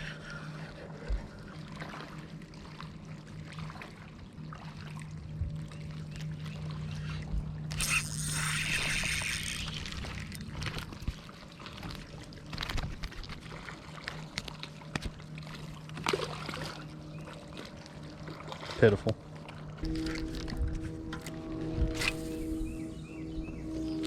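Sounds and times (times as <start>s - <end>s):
steady low hum: 0.0s - 24.0s
water sloshing around boat: 0.0s - 24.0s.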